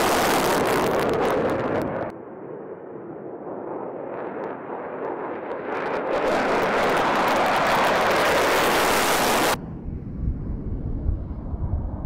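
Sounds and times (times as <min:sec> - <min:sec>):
jet engine roaring: 0:00.0 - 0:12.0.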